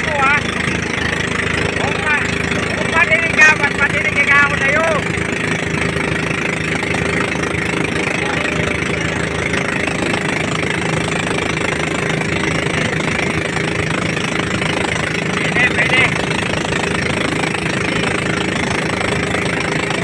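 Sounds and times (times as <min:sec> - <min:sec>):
boat engine running: 0:00.0 - 0:20.0
water splashing against hull: 0:00.0 - 0:20.0.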